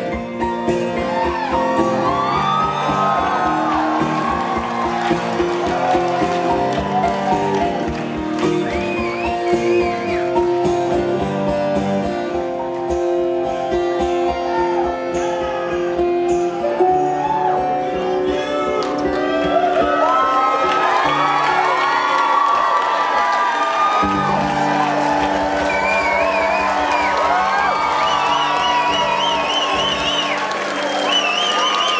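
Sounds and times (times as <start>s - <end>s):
live rock band playing: 0.0s - 20.1s, 24.0s - 31.1s.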